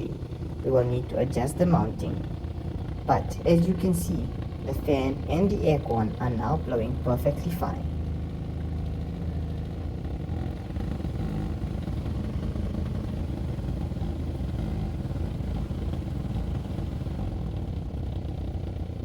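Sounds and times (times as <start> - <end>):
blower fan motor running: 0.0 - 19.0.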